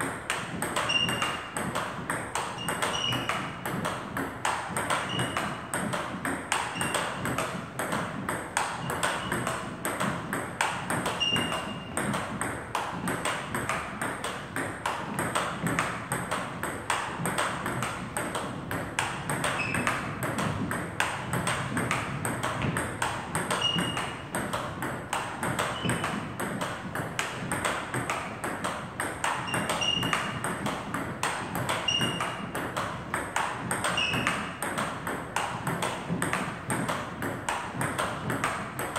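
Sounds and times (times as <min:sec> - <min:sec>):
table tennis balls clicking: 0:00.0 - 0:38.9.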